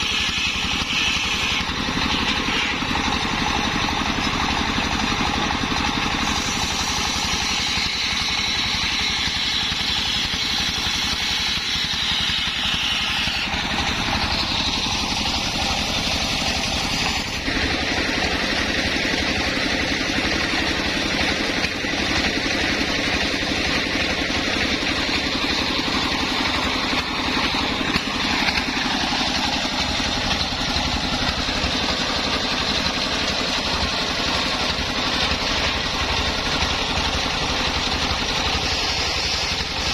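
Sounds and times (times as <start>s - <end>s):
engine-driven circular saw whining: 0.0s - 39.9s.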